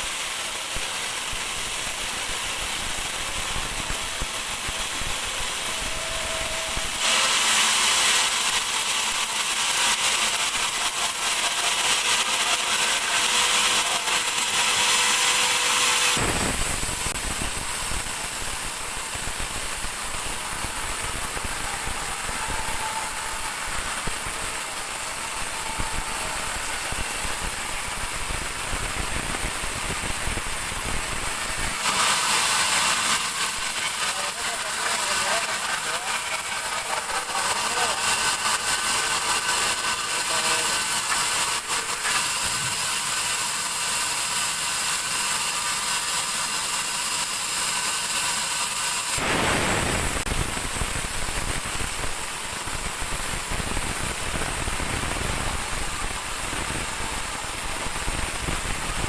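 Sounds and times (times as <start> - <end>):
band sawmill sawing wood: 0.0 - 29.3, 31.4 - 49.4.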